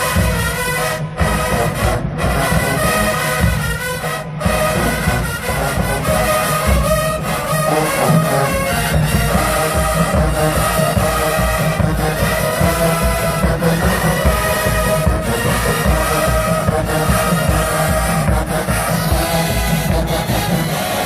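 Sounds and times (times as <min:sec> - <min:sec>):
brass section chords: 0:00.0 - 0:21.0.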